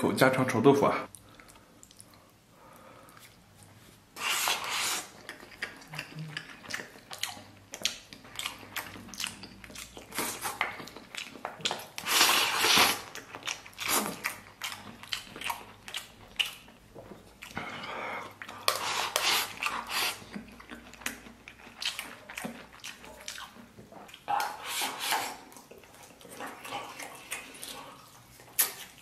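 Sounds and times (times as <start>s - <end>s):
wet chewing and mouth clicks: 1.1s - 29.0s.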